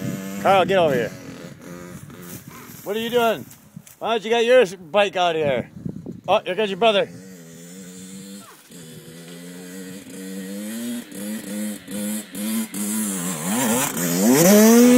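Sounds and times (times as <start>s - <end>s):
dirt bike engine revving: 0.0s - 3.5s, 5.8s - 14.9s.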